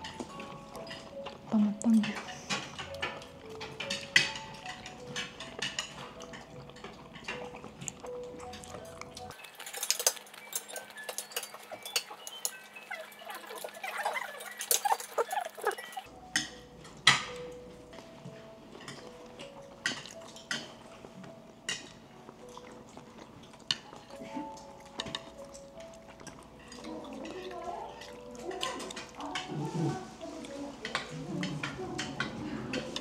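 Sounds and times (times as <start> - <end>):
cutlery clinking on plates: 0.0 - 21.0, 21.7 - 33.0
soft background music: 0.0 - 33.0.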